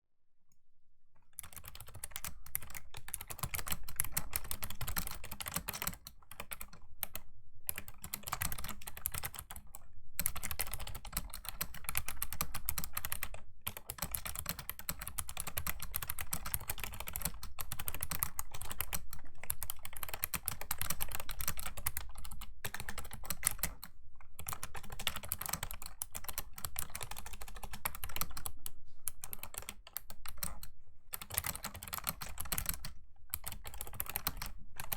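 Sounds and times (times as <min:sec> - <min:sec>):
fast typing on keyboard: 0:01.4 - 0:34.9.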